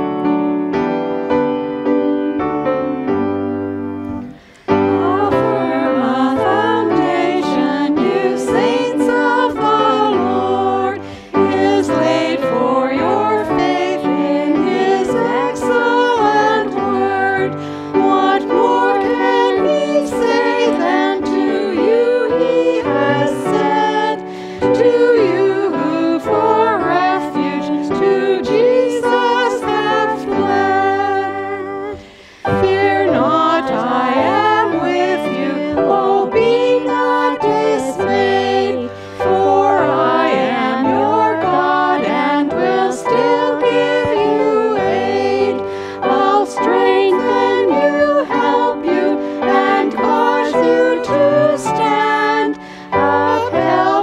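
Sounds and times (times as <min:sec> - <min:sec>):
keyboard accompaniment: 0:00.0 - 0:54.0
voices singing a hymn: 0:00.0 - 0:54.0.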